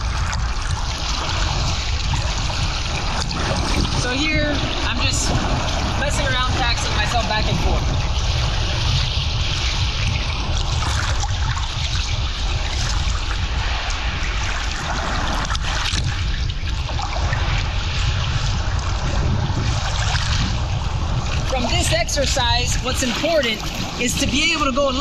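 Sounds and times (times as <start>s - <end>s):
sea water sloshing and splashing: 0.0s - 25.0s
wind rumbling on microphone: 0.0s - 25.0s.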